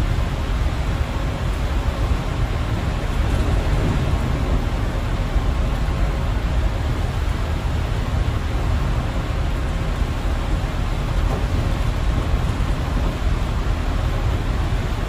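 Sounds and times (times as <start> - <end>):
bus engine and tyre noise: 0.0 - 15.0
heavy rain: 0.0 - 15.0.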